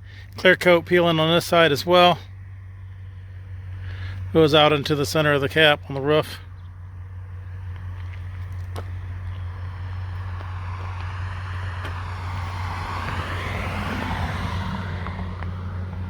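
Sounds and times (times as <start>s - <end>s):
steady low hum: 0.0s - 16.0s
vehicle passing by: 1.1s - 16.0s.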